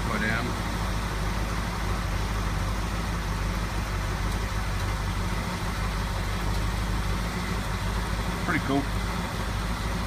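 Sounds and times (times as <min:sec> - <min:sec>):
pickup truck engine idling: 0:00.0 - 0:10.0.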